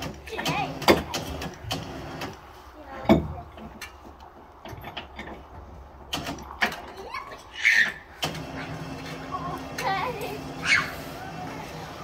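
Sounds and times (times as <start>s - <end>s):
hand hoist clicks and knocks: 0.0s - 10.1s.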